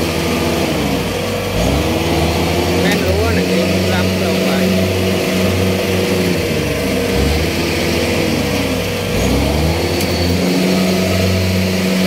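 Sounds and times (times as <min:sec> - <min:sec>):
diesel engine labouring: 0:00.0 - 0:12.0.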